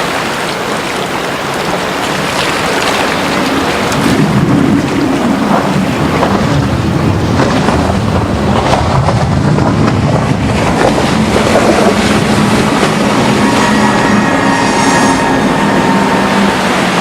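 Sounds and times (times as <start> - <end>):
speedboat engine: 0.0 - 17.0
water noise: 0.0 - 17.0
wind buffeting microphone: 0.0 - 17.0.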